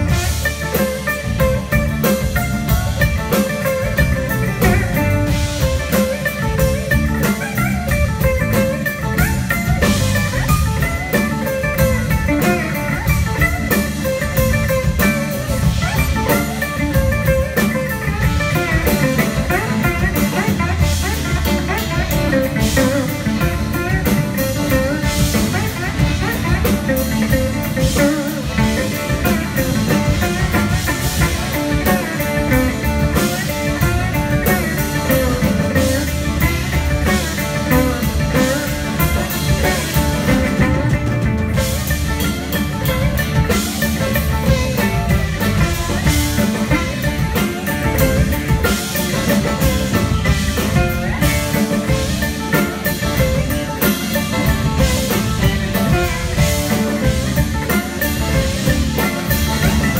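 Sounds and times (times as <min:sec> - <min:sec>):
banjo: 0:00.0 - 0:59.9
drum kit: 0:00.0 - 0:59.9
electric bass: 0:00.0 - 0:59.9
electric guitar: 0:00.0 - 0:59.9
mandolin: 0:00.0 - 0:59.9.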